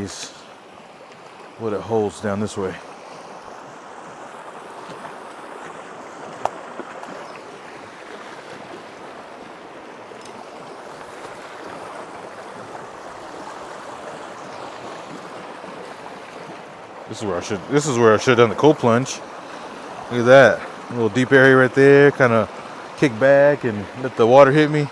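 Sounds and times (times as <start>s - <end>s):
creek water running: 0.0s - 24.9s.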